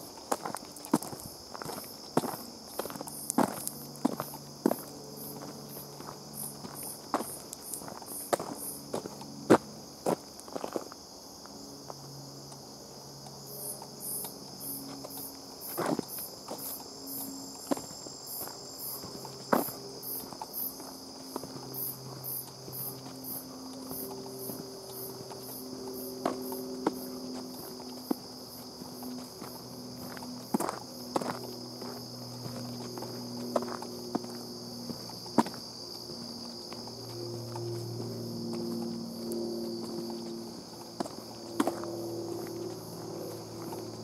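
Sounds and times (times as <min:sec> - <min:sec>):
footsteps on dirt: 0:00.0 - 0:12.6, 0:13.2 - 0:44.0
insect chirping: 0:00.0 - 0:44.0
insect high-pitched trill: 0:00.0 - 0:44.0.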